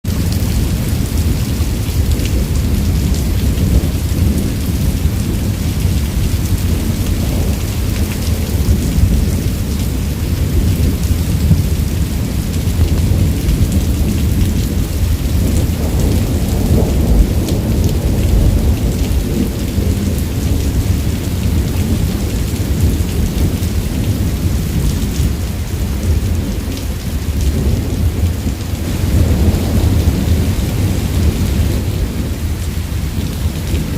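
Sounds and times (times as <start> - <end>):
heavy rain: 0.0 - 33.9
rumbling thunder: 0.1 - 33.9.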